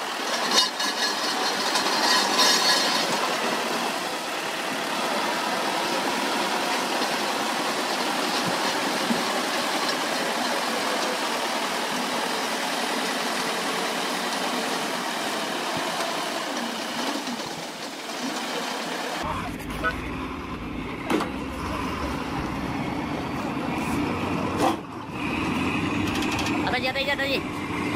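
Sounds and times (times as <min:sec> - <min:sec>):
bulldozer diesel engine: 0:00.0 - 0:27.9.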